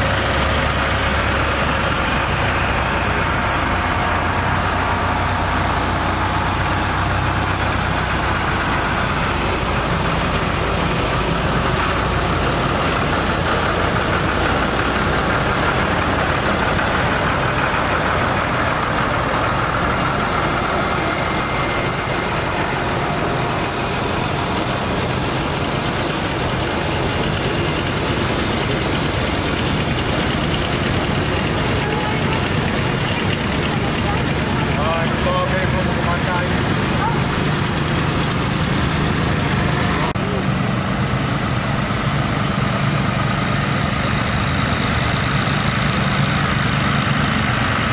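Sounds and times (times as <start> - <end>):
tractor engines passing: 0.0 - 47.9.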